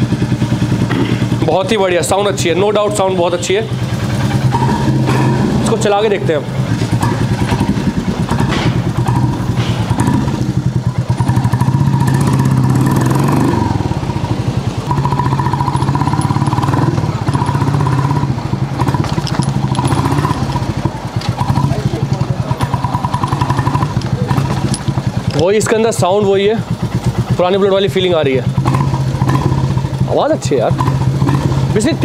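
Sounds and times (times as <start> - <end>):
motorcycle engine riding off: 0.0 - 32.0.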